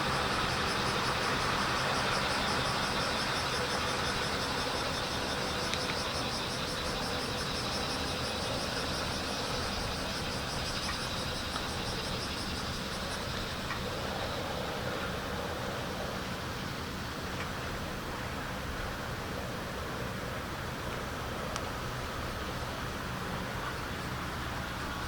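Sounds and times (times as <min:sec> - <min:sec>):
cicadas chorus: 0:00.0 - 0:25.0.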